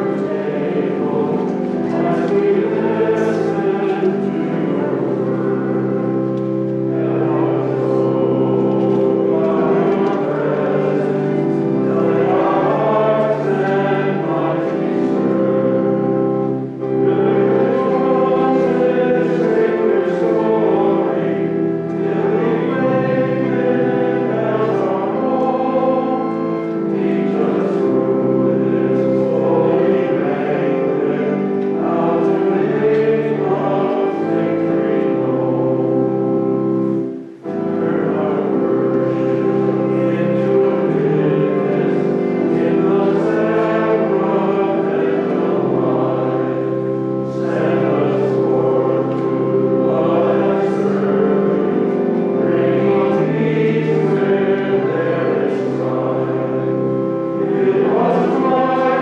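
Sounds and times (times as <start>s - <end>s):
choir singing a hymn: 0.0s - 59.0s
held accompanying chords: 0.0s - 59.0s.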